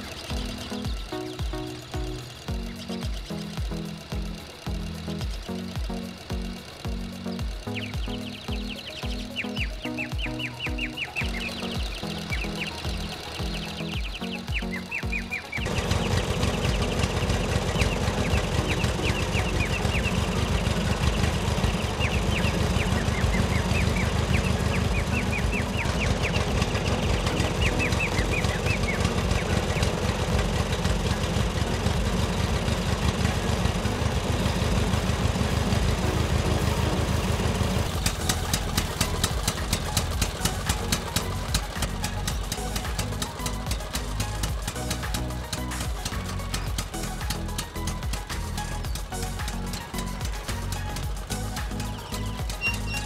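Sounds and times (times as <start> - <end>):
sharp rhythmic clicks: 0.0 - 53.0
tractor engine chugging: 0.0 - 53.0.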